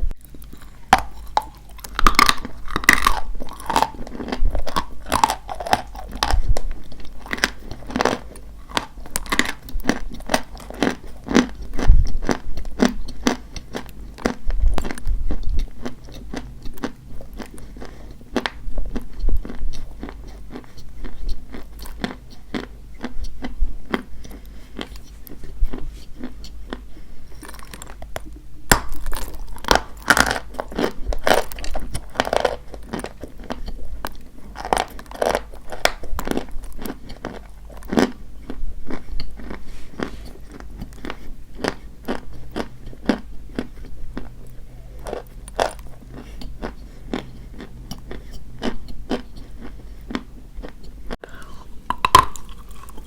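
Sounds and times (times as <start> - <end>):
chalk being chewed: 0.2 - 28.4, 29.0 - 53.0.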